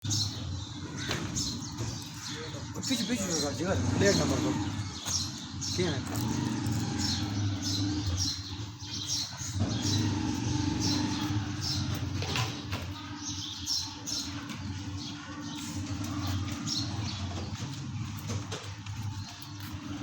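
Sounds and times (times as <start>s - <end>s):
birds chirping: 0.0s - 20.0s
motorcycle engine idling: 0.0s - 20.0s.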